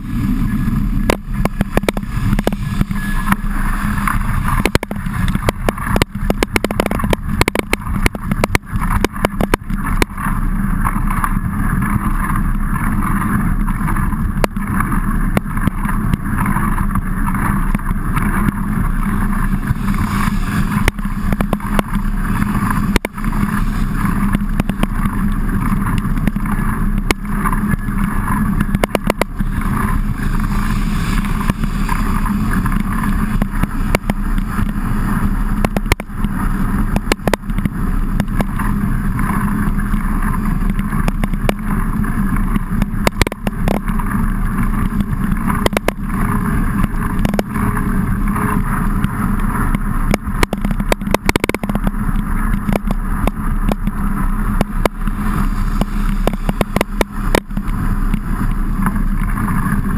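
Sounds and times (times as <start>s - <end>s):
tyres on wet ground: 0.0s - 59.9s
wind rush: 0.0s - 59.9s
raindrops ticking: 1.0s - 59.9s.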